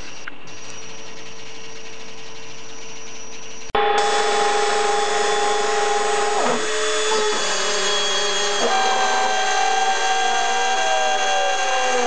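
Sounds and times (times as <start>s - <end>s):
rotary tool milling high whine: 0.0s - 12.0s.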